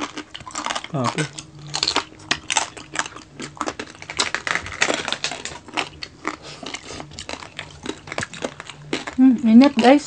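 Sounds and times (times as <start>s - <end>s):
crispy skin crunching: 0.0s - 10.0s.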